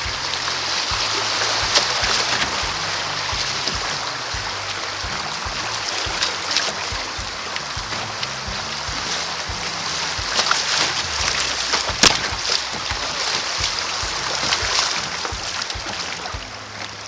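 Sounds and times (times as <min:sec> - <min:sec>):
creek water rushing and splashing: 0:00.0 - 0:17.0
knocks on kayak: 0:00.9 - 0:16.5.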